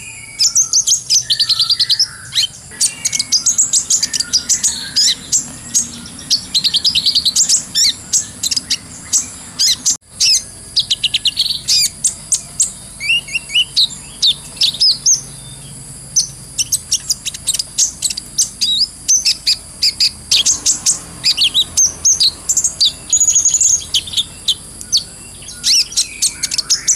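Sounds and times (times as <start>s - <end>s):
sunbird chirping and trilling: 0.0s - 26.9s.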